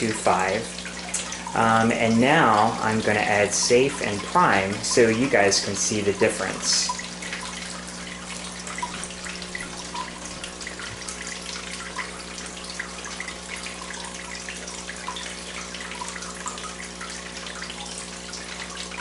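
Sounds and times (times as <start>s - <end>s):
low steady hum: 0.0s - 19.0s
water trickling and dripping: 0.0s - 19.0s.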